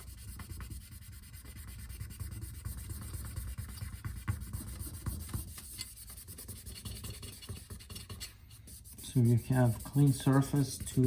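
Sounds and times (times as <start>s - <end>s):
cloth rag rubbing on metal: 0.0s - 11.0s.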